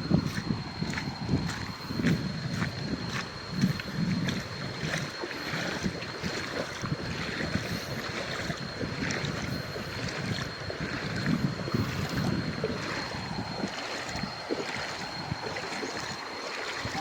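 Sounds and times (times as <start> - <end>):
thin steady high tone: 0.0 - 17.0
water noise: 0.0 - 17.0
wind buffeting microphone: 0.0 - 17.0.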